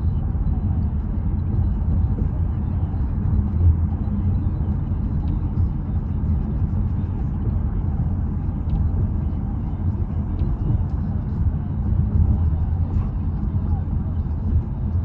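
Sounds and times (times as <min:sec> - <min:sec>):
road noise rumble: 0:00.0 - 0:15.0
wind buffeting in car: 0:00.0 - 0:15.0.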